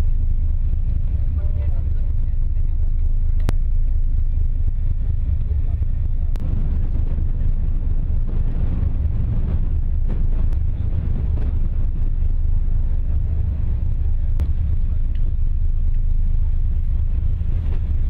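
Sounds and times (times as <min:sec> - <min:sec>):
vessel rumble at sea: 0:00.0 - 0:18.0
wind: 0:00.0 - 0:18.0.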